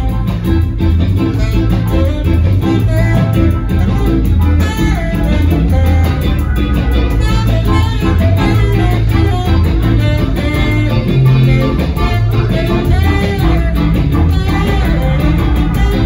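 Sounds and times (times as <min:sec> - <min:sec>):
ska jazz band playing: 0:00.0 - 0:16.0
tenor saxophone melody: 0:00.0 - 0:16.0.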